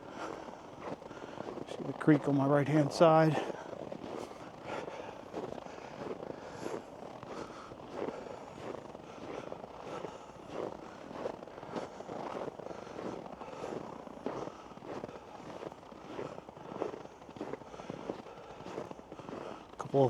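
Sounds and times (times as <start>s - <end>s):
footsteps crunching on trail: 0.0s - 20.0s.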